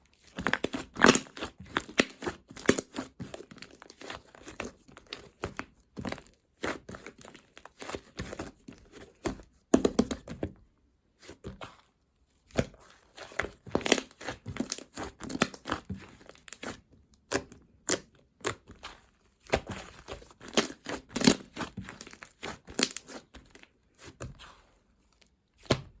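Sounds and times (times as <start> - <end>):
crinkling handling sounds: 0.0 - 9.4, 11.2 - 25.7.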